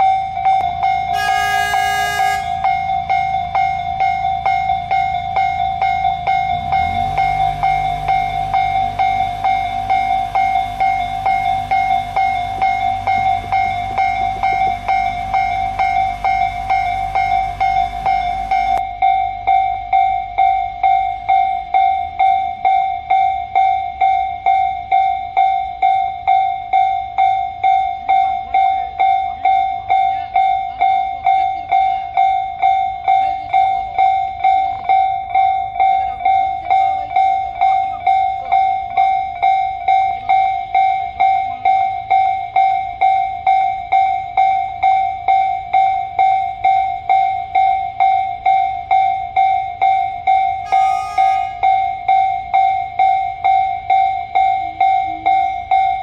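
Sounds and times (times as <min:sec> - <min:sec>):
level crossing bell dinging: 0:00.0 - 0:56.0.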